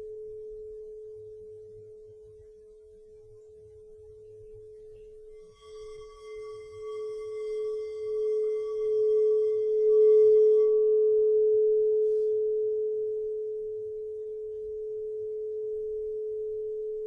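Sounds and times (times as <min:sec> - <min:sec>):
crystal singing bowl ringing: 0:00.0 - 0:17.0.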